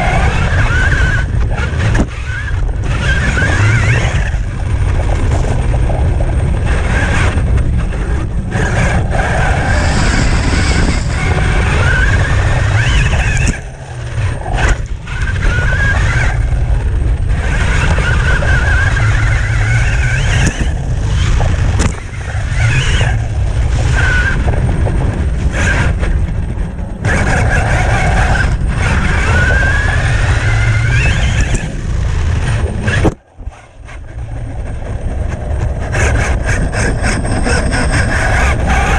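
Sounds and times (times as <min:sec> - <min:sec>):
electric motor whining: 0:00.0 - 0:38.9
rumble of tyres on rough ground: 0:00.0 - 0:38.9.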